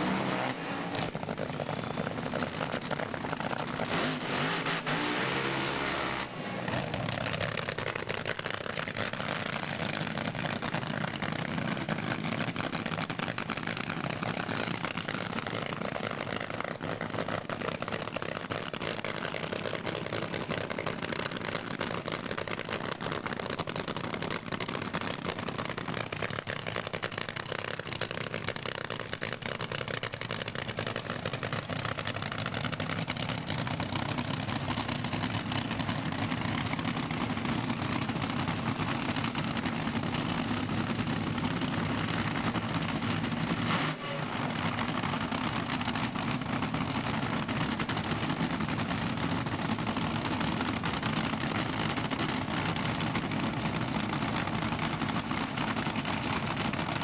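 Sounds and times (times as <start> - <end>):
dragster engines idling: 0.0 - 3.9, 6.7 - 57.0.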